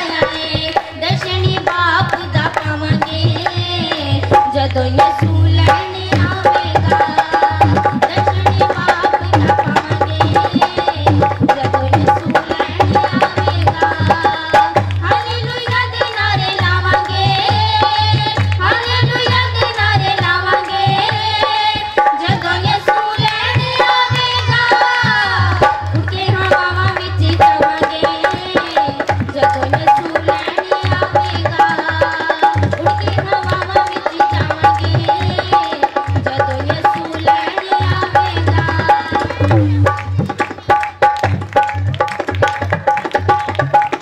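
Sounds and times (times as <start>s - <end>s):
women singing through microphones: 0.0s - 40.3s
fast hand-drum beat: 0.0s - 44.0s.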